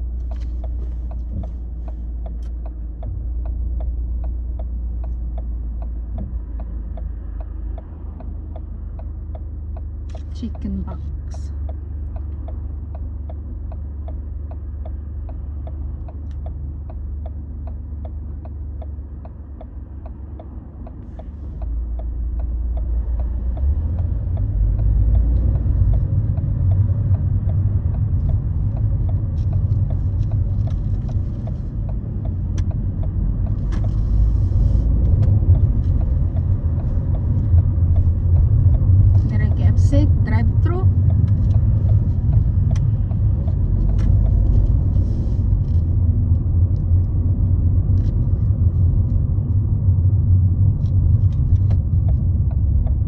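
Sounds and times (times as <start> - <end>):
car engine and road rumble: 0.0 - 53.0
light regular ticking: 0.0 - 53.0.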